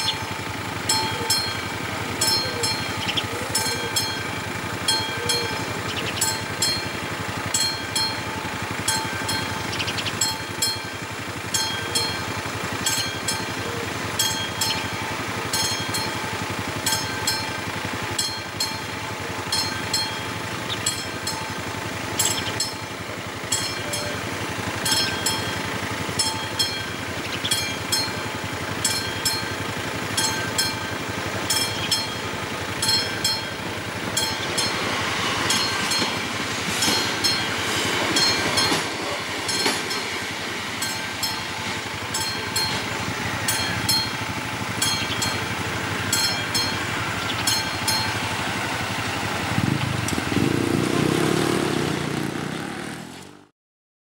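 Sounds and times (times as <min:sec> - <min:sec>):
level crossing bell dinging: 0:00.0 - 0:49.2
steady mechanical rumble: 0:00.0 - 0:53.0.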